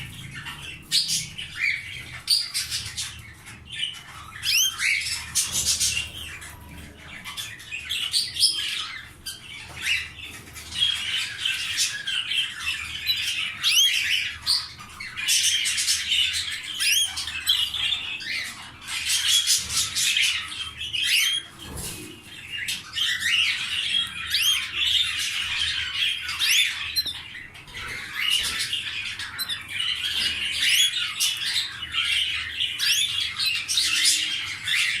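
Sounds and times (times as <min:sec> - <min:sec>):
canaries trilling and chirping: 0:00.0 - 0:35.0.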